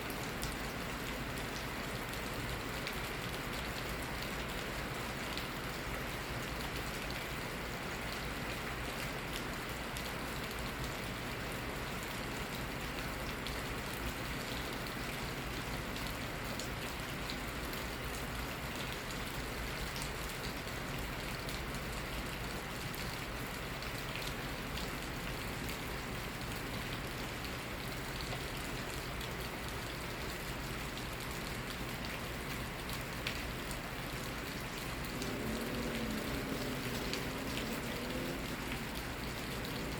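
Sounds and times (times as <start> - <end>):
raindrops ticking on surfaces: 0.0 - 39.9
steady rain falling: 0.0 - 39.9.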